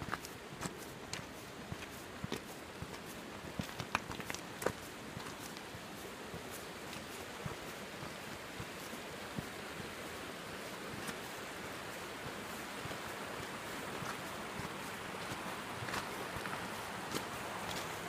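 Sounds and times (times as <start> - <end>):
footsteps on gravel: 0.0 - 9.5, 10.9 - 18.0.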